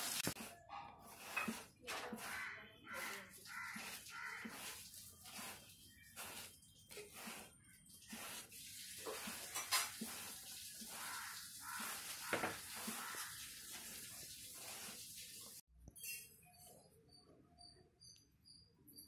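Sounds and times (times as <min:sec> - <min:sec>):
hands rubbing crumbly mixture: 0:00.0 - 0:15.4.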